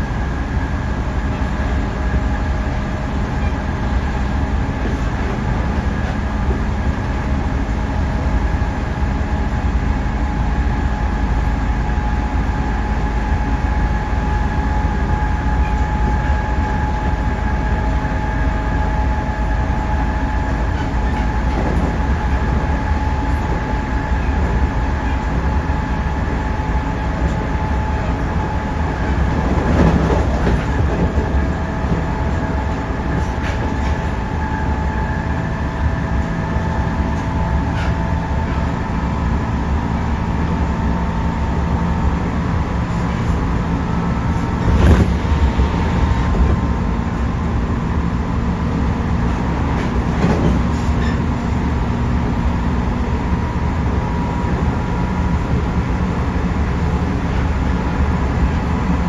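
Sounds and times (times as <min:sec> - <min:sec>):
train motor whine: 0:00.0 - 0:59.0
train wheels rumbling on rail: 0:00.0 - 0:59.0.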